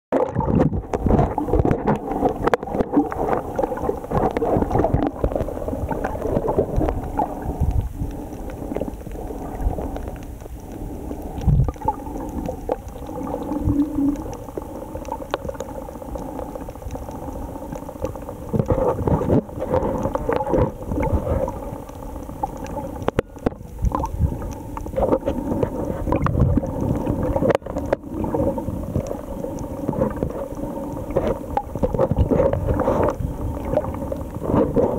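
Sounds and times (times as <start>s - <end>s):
underwater rumble and swishing: 0.1s - 34.9s
faint steady hum: 0.2s - 34.9s.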